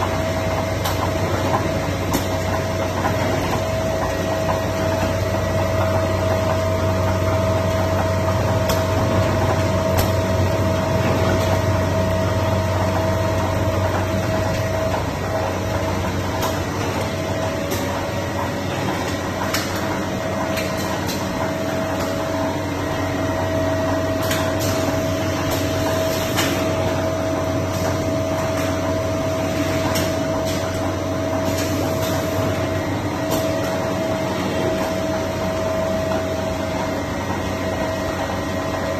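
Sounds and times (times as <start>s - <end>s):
machinery humming and whining: 0.0s - 38.9s.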